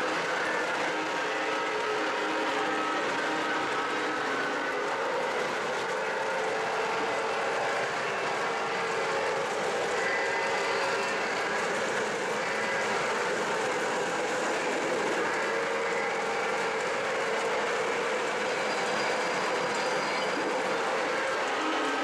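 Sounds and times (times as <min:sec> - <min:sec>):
model train wheels rattling on rails: 0:00.0 - 0:22.0.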